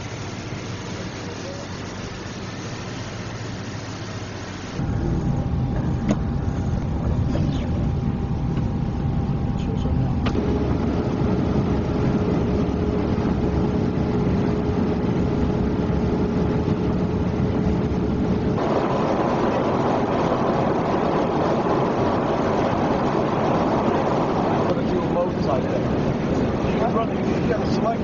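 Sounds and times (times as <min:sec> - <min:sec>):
aircraft cabin rumble and hiss: 0:00.0 - 0:28.0.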